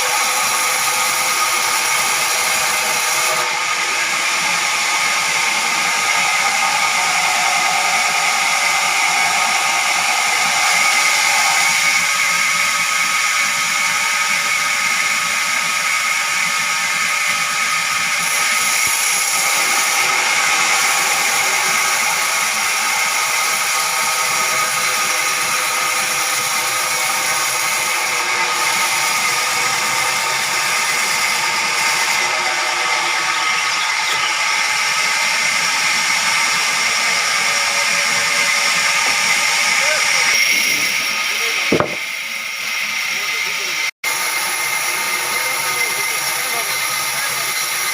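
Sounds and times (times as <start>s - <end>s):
sawmill saw cutting wood: 0.0s - 47.9s.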